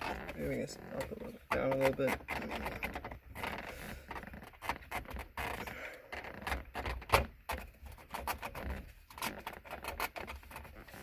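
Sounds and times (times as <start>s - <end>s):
clicks knocks and rattles of parts: 1.0s - 11.0s.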